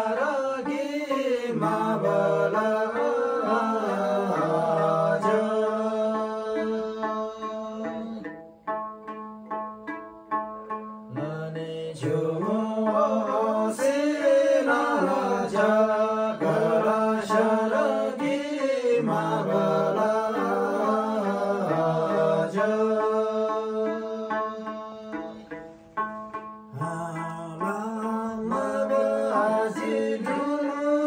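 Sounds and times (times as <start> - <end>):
men singing together: 0.0 - 8.2, 11.2 - 25.4, 26.8 - 31.0
plucked lute: 0.0 - 31.0.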